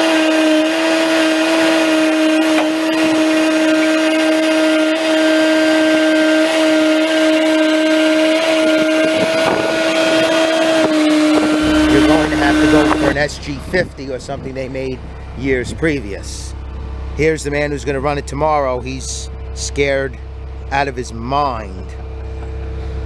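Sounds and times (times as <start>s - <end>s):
high-pitched hydraulic motor whine: 0.0s - 20.9s.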